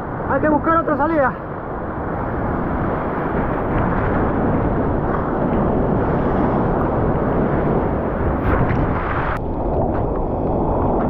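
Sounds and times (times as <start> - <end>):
surf rushing: 0.0 - 11.0.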